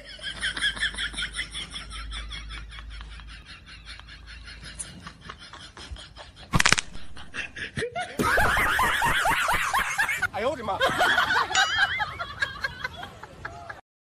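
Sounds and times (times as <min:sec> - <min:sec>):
stifled laughter: 0:00.0 - 0:13.8.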